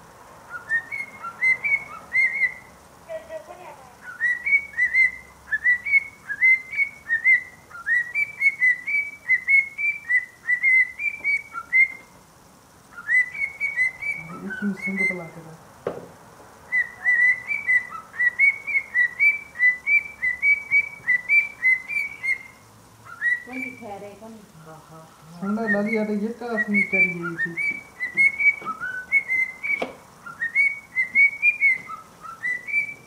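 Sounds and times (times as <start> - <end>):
cockatiel whistling: 0.5 - 2.7, 4.0 - 12.1, 12.9 - 15.4, 16.7 - 24.0, 25.4 - 33.0.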